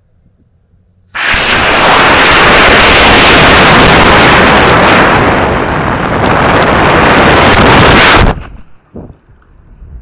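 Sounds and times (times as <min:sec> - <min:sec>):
air rushing over camera: 0:01.0 - 0:10.0.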